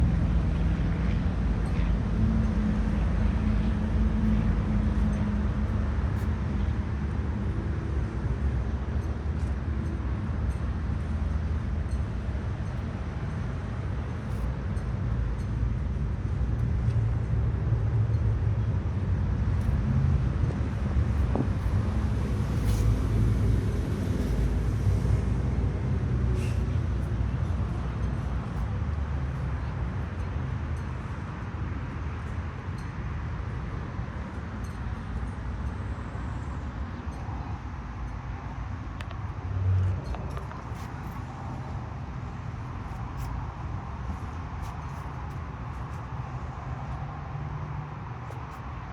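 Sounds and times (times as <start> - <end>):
motor vehicle rumble: 0.0 - 48.9.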